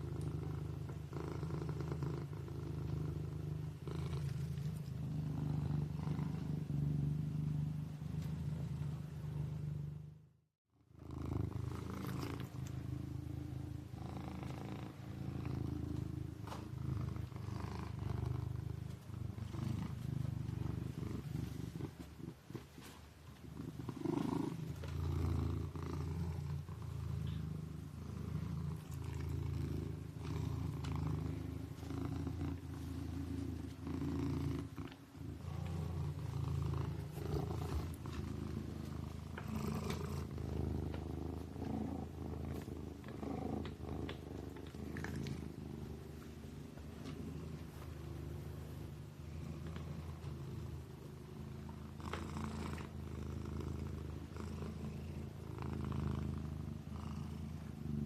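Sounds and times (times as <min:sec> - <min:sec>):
kitten purring: 0:00.0 - 0:58.0.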